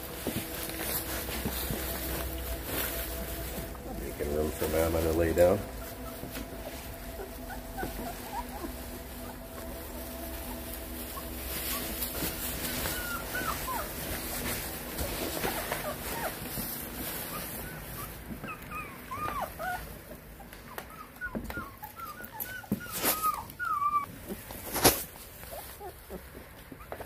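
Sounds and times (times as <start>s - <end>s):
shredded paper rustling: 0.0s - 26.2s
puppies whimpering and squeaking: 0.0s - 27.0s.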